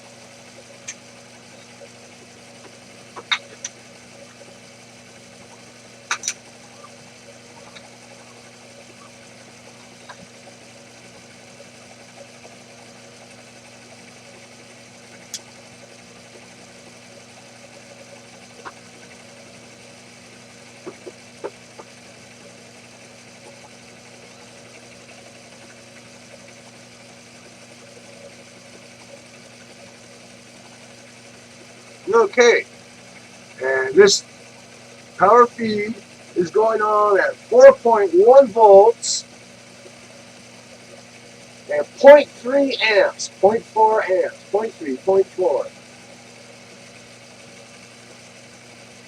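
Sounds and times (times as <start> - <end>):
milling machine humming: 0.0 - 49.0.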